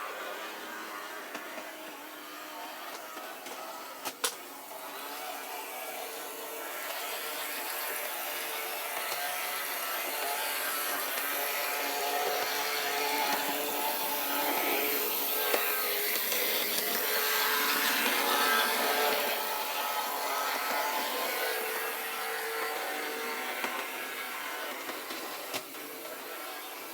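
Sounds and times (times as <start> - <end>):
model hand car motor whirring: 0.1 - 26.9.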